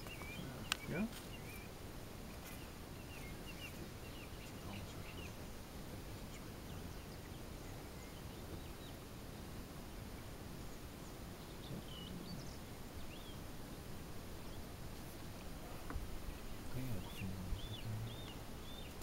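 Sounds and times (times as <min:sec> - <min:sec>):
small bird chirping: 0:00.0 - 0:09.4, 0:10.0 - 0:19.0
outdoor background hiss: 0:00.0 - 0:19.0.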